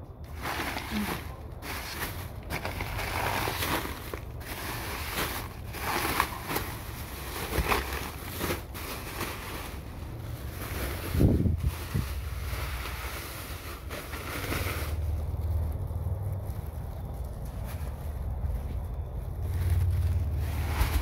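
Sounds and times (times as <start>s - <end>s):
plastic bags rustling: 0.0s - 21.0s.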